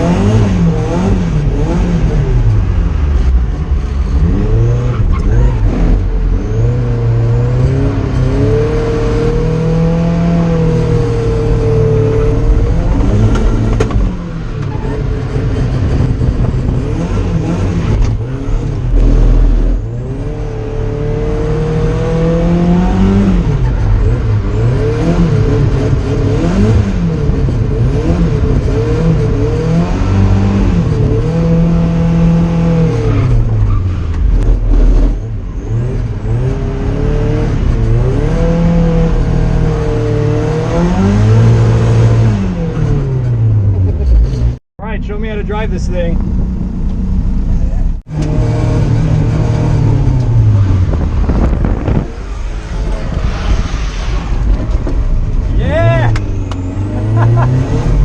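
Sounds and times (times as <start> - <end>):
car engine revving hard: 0.0 - 44.6, 47.5 - 58.0.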